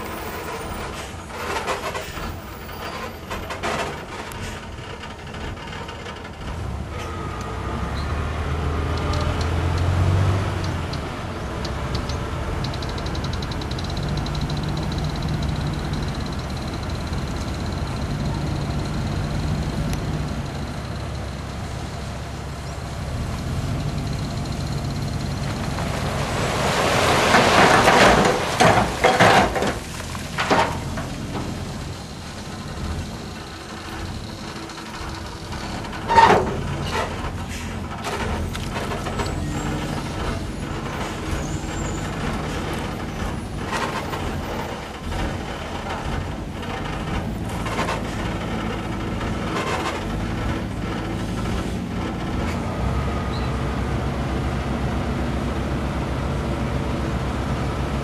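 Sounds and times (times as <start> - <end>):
rushing crackling noise: 0.0 - 55.6
heavy engine running: 0.0 - 58.0.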